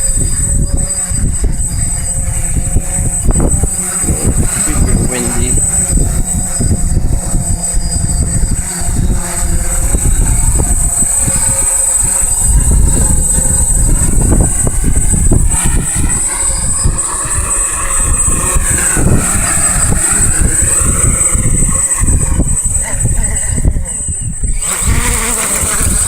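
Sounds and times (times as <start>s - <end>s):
quadcopter propellers whining: 0.0s - 26.0s
wind buffeting microphone: 0.0s - 26.0s.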